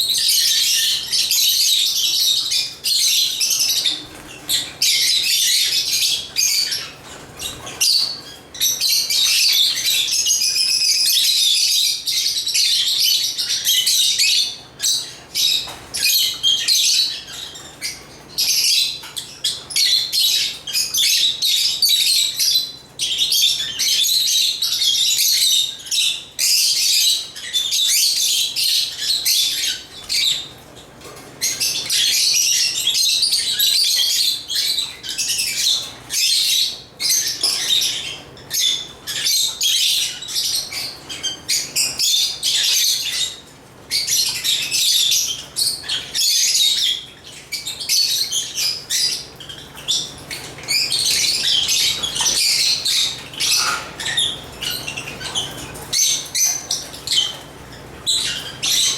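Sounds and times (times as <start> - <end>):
lovebirds chirping and twittering: 0.0 - 58.9.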